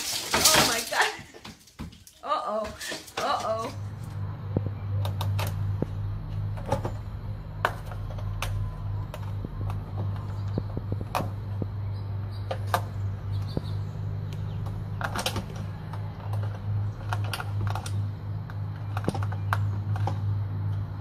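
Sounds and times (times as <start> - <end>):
steady low hum: 3.0 - 21.0.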